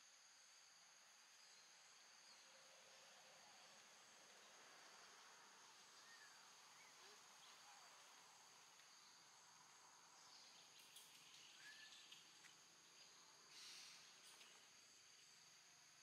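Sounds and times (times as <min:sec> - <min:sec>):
faint high insect drone: 0:00.0 - 0:16.0.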